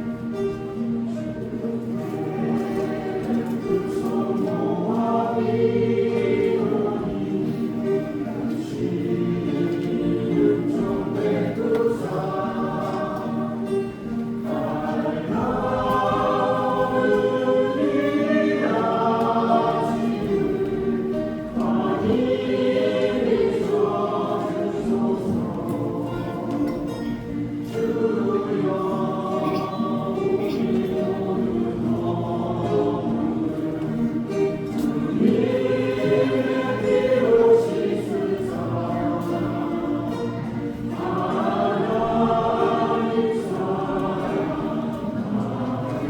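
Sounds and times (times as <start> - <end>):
choir singing a hymn: 0.0 - 46.0
guitar accompaniment: 0.0 - 46.0.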